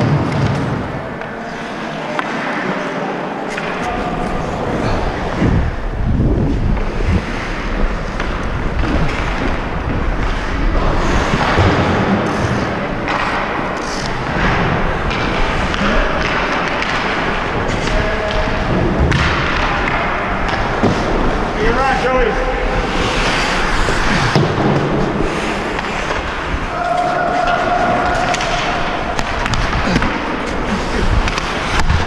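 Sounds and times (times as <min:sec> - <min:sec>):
skates scraping on ice: 0:00.2 - 0:32.0
wind over microphone: 0:03.8 - 0:32.0.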